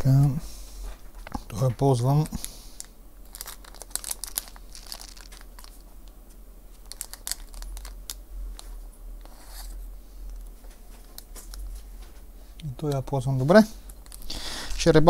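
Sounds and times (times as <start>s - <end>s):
packaging crinkling: 1.8s - 12.1s, 12.8s - 14.9s.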